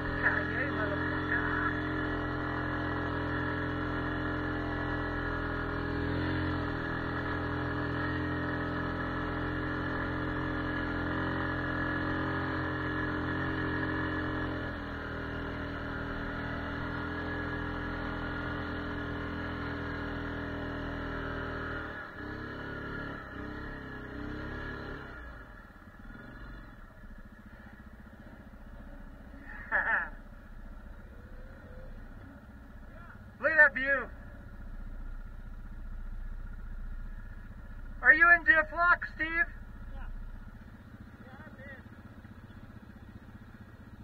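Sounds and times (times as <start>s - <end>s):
atv engine droning: 0.0s - 44.0s.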